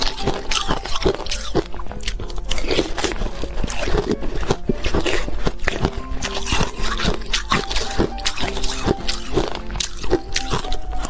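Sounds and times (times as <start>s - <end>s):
ice crunching being chewed: 0.0s - 11.0s.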